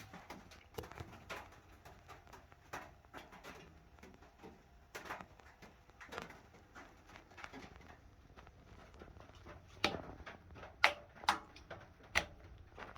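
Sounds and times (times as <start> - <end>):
clicks and knocks of hard objects: 0.0 - 12.9.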